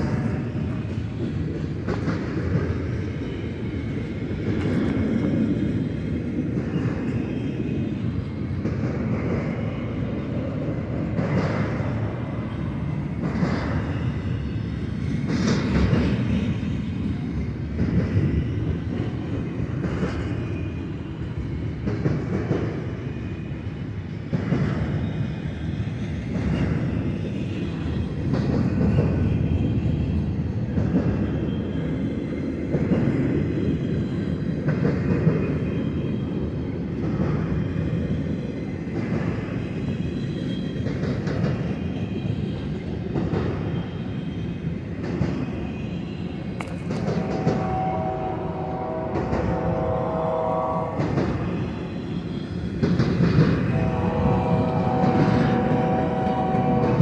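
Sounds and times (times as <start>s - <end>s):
freight train rumble: 0.0s - 57.0s
train wheel clack: 0.0s - 57.0s.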